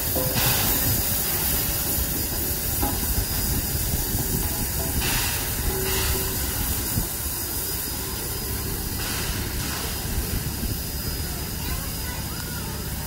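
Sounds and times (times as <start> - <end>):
steam locomotive hissing steam: 0.0 - 13.0.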